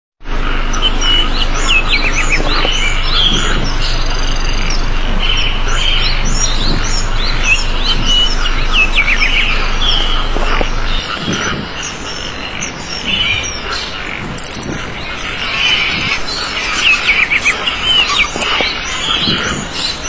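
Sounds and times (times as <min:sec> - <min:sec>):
steady low hum: 0:00.3 - 0:20.0
small birds chirping: 0:00.5 - 0:20.0.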